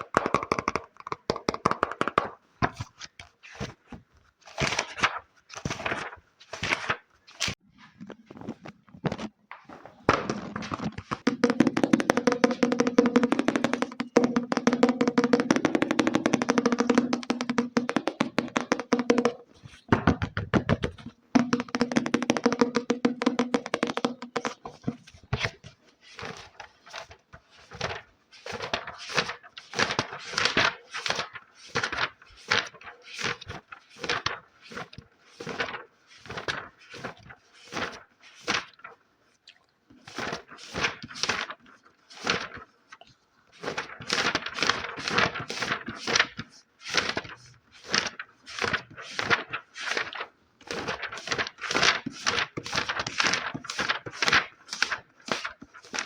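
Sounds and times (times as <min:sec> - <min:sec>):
fingers tapping on a book: 0:00.0 - 0:07.0, 0:10.1 - 0:38.9, 0:39.9 - 0:56.0.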